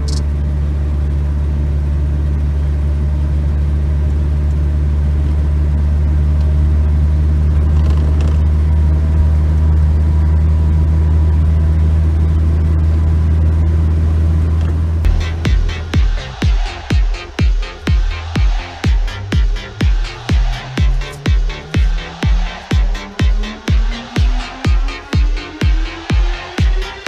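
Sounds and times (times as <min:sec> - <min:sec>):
car engine running steadily: 0:00.0 - 0:27.0.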